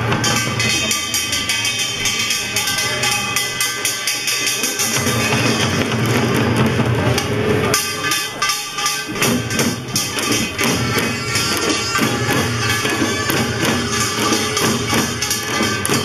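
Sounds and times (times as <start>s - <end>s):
percussion band drumming: 0.0s - 16.0s.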